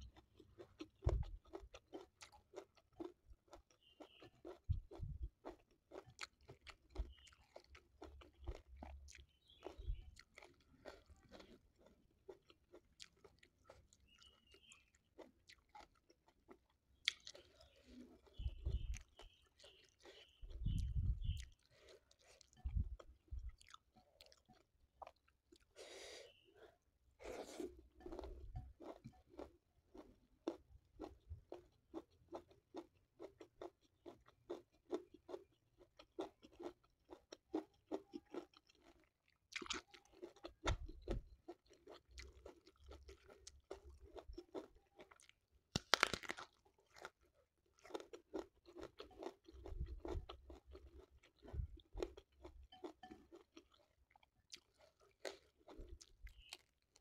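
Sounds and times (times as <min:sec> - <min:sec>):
crunchy chewing: 0:00.0 - 0:57.0.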